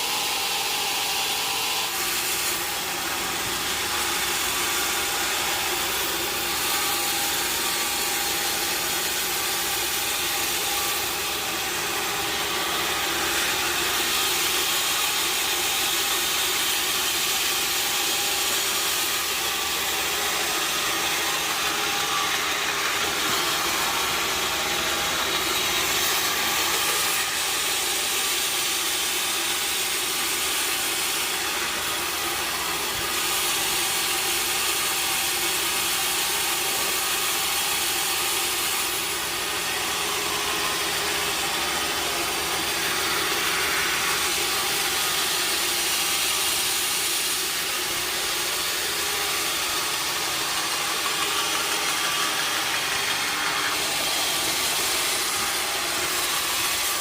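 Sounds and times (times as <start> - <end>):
sawmill machinery hissing: 0.0 - 57.0.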